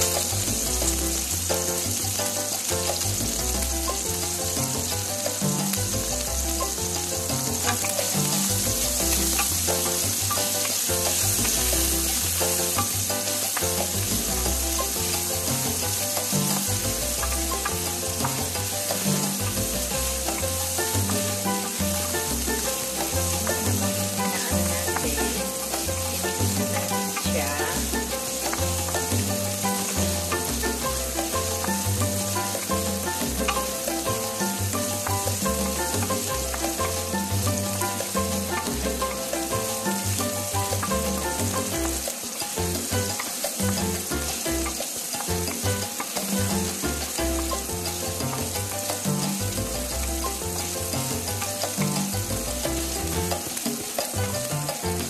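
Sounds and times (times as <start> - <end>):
background music: 0.0 - 55.0
meat sizzling in oil: 0.0 - 55.0
wooden spatula stirring in pan: 0.0 - 55.0.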